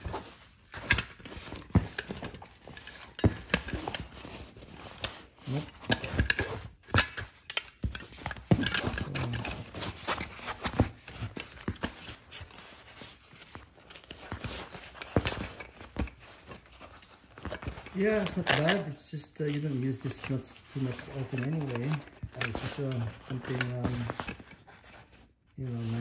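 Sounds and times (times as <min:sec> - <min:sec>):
fabric rustling: 0:00.0 - 0:26.0.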